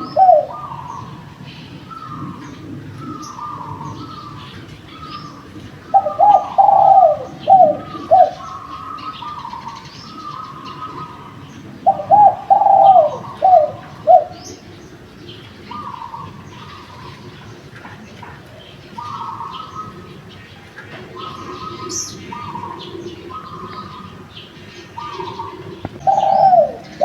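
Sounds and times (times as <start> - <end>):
faint higher dove cooing: 0.0 - 15.0, 15.7 - 27.0
doves cooing: 0.0 - 27.0
small birds chirping: 0.0 - 27.0.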